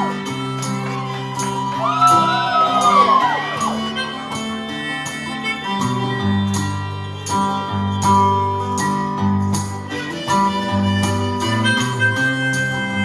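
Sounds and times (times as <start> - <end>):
held melody line: 0.0 - 13.0
strummed acoustic guitar: 0.0 - 13.0.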